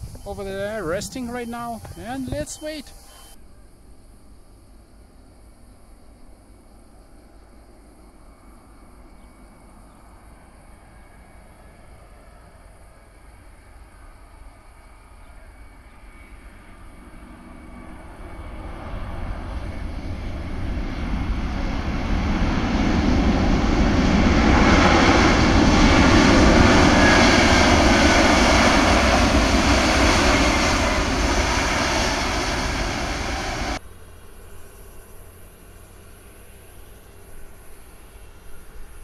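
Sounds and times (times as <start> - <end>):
jet engines roaring at takeoff: 0.0 - 3.4, 7.1 - 39.0.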